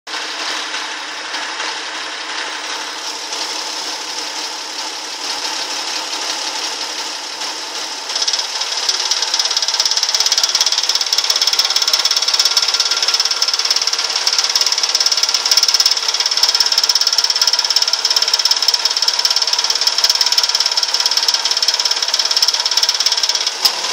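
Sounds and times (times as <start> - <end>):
car engine idling with knocking: 0.1 - 23.9.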